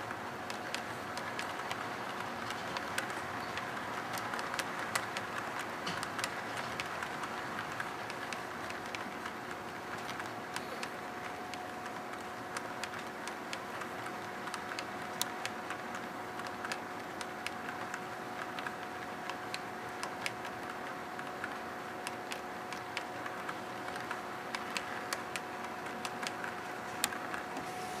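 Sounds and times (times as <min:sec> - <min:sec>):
model train wheels clicking: 0:00.0 - 0:27.6
steady hum: 0:00.0 - 0:28.0.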